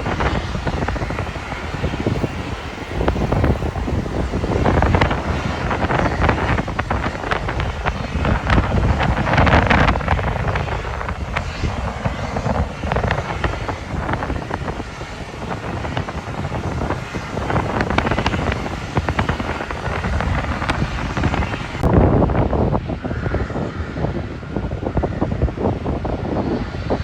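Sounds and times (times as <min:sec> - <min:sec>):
jet engines rumbling: 0:00.0 - 0:27.0
wind buffeting microphone: 0:00.0 - 0:27.0.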